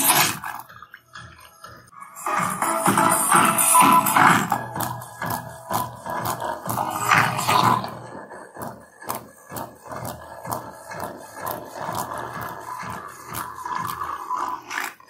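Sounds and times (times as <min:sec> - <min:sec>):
distorted music from speaker: 0:00.0 - 0:15.0.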